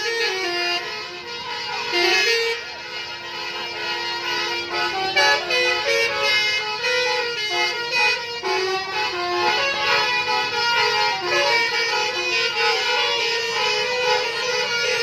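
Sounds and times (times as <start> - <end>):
multi-tone bus air horn tune: 0.0 - 15.0.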